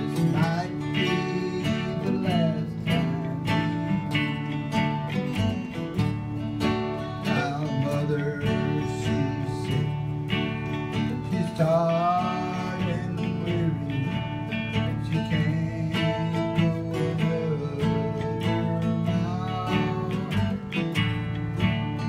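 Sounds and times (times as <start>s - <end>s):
acoustic guitars strumming: 0.0s - 22.0s.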